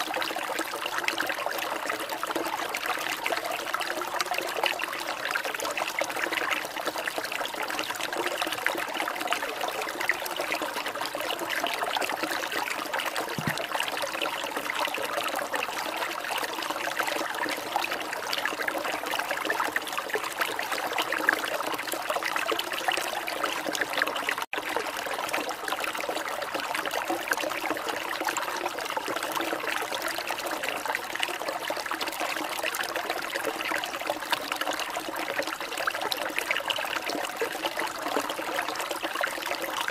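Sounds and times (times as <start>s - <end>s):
trickling stream water: 0.0s - 39.9s.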